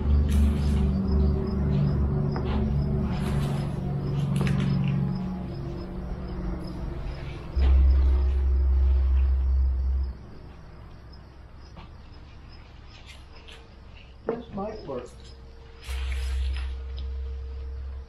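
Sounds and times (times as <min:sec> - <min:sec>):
low rumble: 0:00.0 - 0:12.6, 0:15.2 - 0:18.0
insects chirping: 0:00.0 - 0:18.0.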